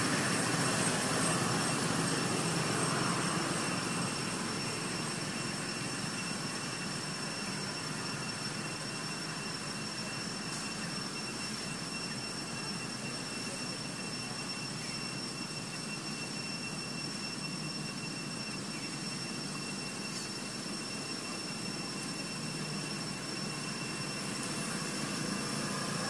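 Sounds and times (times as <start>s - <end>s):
thin high steady tones: 0.0s - 26.0s.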